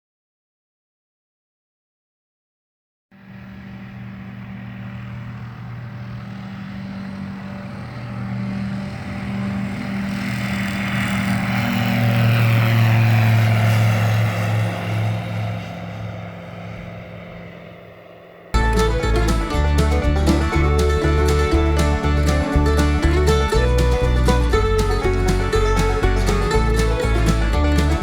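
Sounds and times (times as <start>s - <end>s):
propeller airplane flying past: 3.2s - 28.0s.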